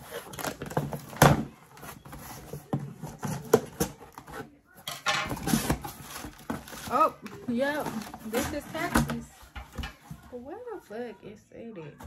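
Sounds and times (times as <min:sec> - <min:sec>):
box packing rustling and scraping: 0:00.0 - 0:10.4.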